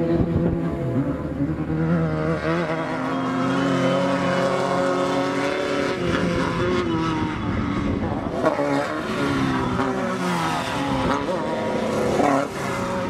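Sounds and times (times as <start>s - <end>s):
buggy engine running hard: 0.0s - 13.0s.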